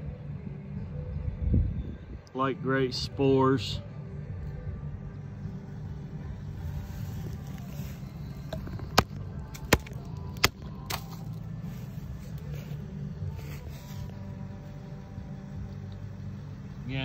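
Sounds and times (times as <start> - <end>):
vehicle engine idling: 2.9 - 17.0.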